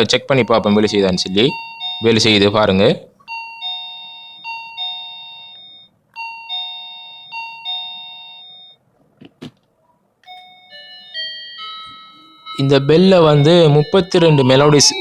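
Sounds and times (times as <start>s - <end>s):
two-note doorbell chime: 0.0s - 2.7s, 3.3s - 8.8s, 10.3s - 15.0s
doorbell chime melody: 0.0s - 8.8s, 10.3s - 15.0s.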